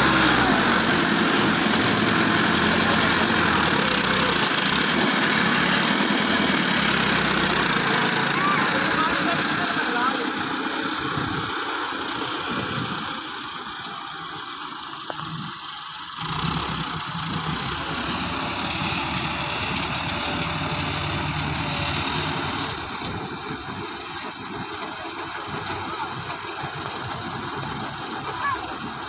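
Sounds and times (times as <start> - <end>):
diesel engine of heavy machinery: 0.0 - 29.0.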